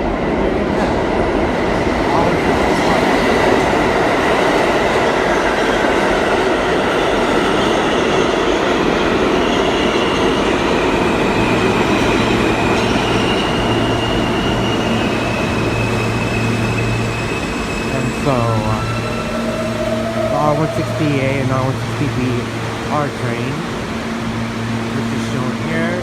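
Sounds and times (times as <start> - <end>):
train wheel and rail noise: 0.0 - 26.0.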